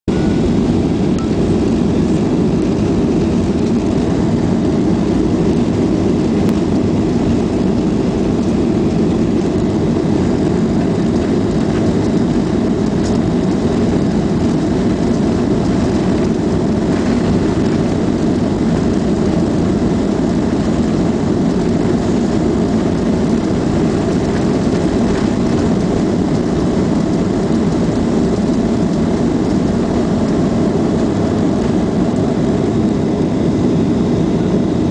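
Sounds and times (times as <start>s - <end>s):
jet engine rumble in cabin: 0.1s - 34.9s.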